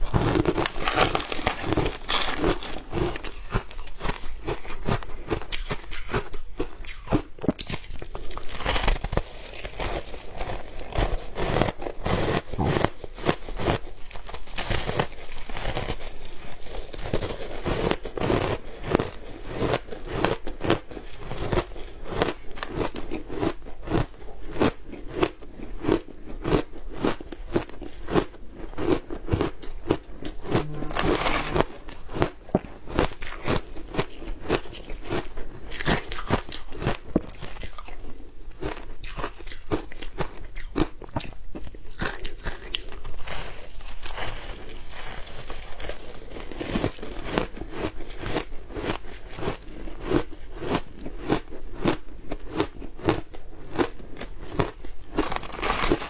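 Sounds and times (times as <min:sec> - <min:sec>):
crunching shaved ice being chewed: 0:00.0 - 0:56.0.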